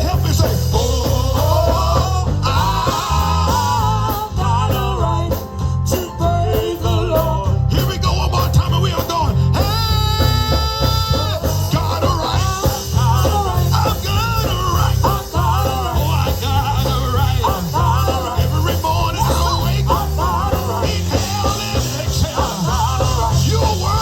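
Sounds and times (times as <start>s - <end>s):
gospel band playing: 0.0s - 24.0s
warbling organ lines: 0.0s - 24.0s.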